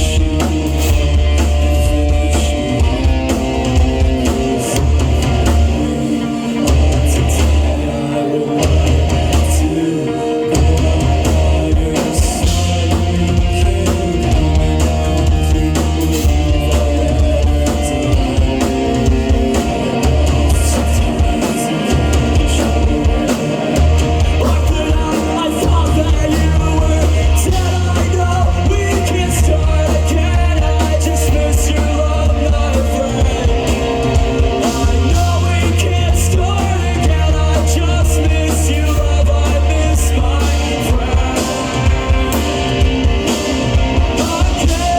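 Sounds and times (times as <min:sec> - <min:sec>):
drum kit: 0:00.0 - 0:44.9
guitars: 0:00.0 - 0:44.9
heavy bass line: 0:00.0 - 0:44.9
person singing: 0:00.0 - 0:44.9.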